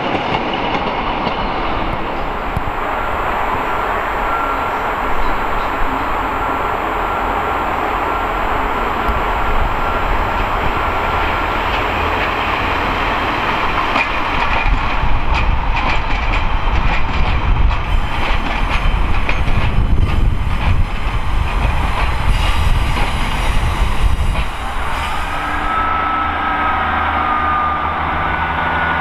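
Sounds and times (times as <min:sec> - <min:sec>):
diesel train engine rumble: 0:00.0 - 0:29.0.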